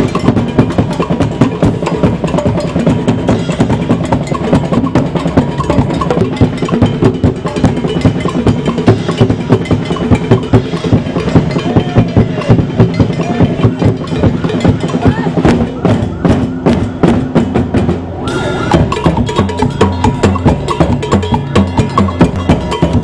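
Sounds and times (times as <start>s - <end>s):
drum band playing fast beat: 0.0s - 23.0s
large drum struck with mallet: 0.0s - 23.0s.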